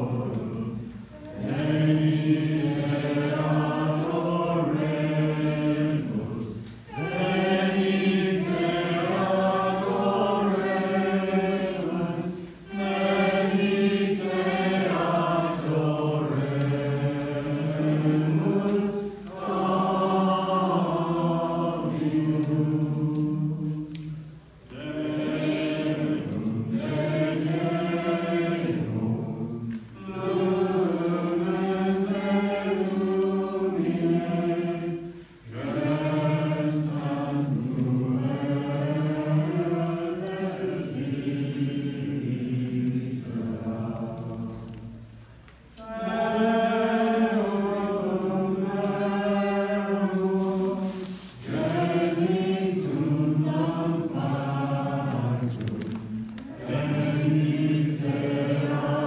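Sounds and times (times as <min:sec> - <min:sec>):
congregation singing: 0:00.0 - 0:59.0.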